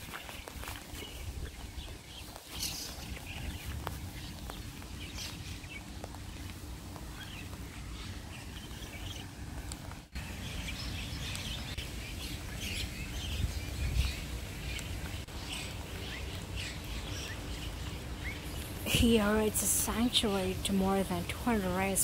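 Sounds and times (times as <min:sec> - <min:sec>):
songbirds chirping and twittering: 0:00.0 - 0:22.0.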